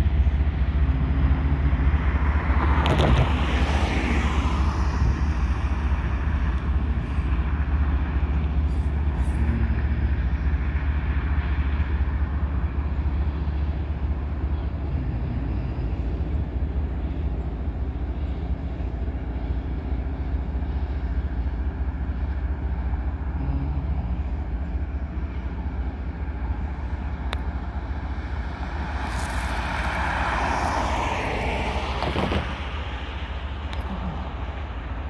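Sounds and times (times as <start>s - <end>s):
rushing noise: 0.0s - 35.0s
train rumbling over bridge: 0.0s - 35.0s.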